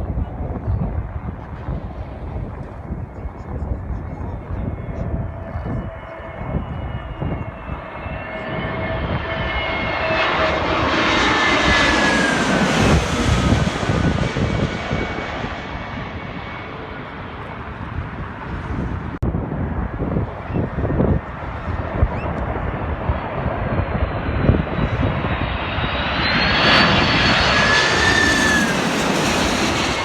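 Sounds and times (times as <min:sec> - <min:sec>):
airliner passing: 0:00.0 - 0:30.0.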